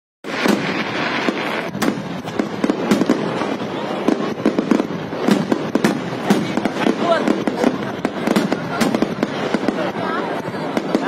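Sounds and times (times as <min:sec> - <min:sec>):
fireworks bangs: 0:00.2 - 0:11.0
fireworks crackle: 0:00.2 - 0:11.0.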